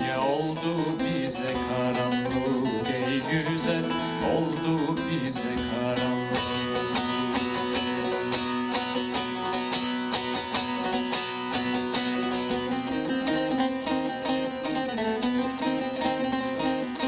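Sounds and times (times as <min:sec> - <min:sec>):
plucked string folk music: 0:00.0 - 0:17.0.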